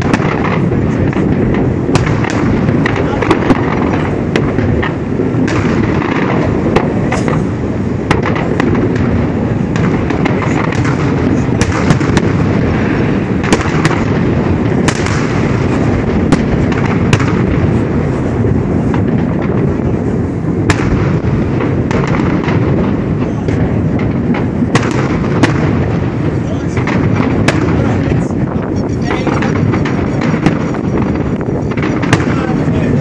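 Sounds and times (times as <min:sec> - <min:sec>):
fireworks shells bursting: 0:00.0 - 0:33.0.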